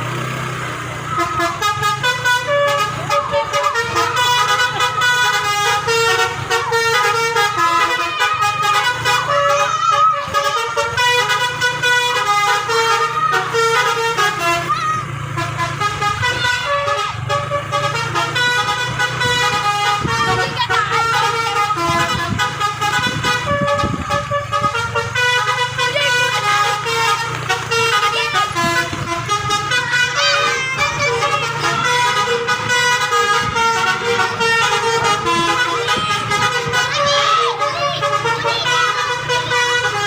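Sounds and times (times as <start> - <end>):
multi-tone bus horn melody: 0.0 - 40.0.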